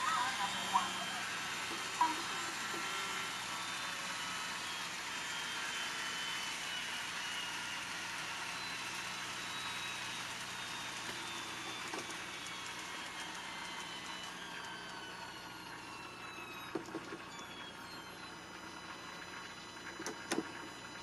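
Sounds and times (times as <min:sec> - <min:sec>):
train inverter motor whine: 0:00.0 - 0:21.0.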